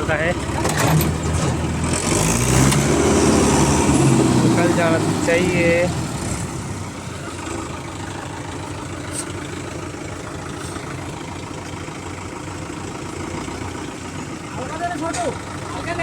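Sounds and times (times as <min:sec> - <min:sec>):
diesel tractor engine idling: 0:00.0 - 0:16.0.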